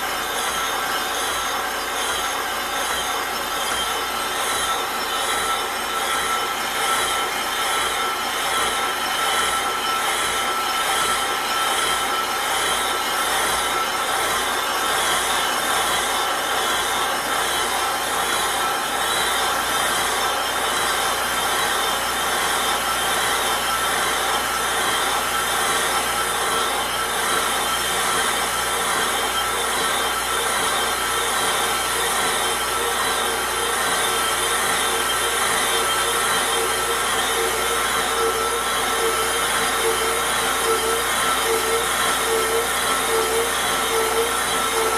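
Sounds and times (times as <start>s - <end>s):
brake lathe ringing tone: 0.2s - 44.9s.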